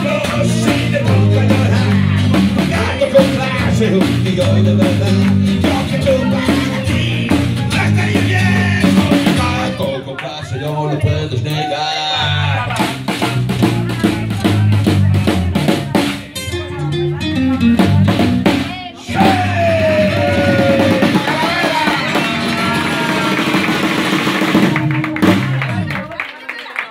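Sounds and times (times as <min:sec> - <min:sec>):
crowd clapping and shouting: 0:00.0 - 0:16.2, 0:18.7 - 0:26.9
upright bass line: 0:00.0 - 0:26.2
rockabilly band playing: 0:00.0 - 0:26.8.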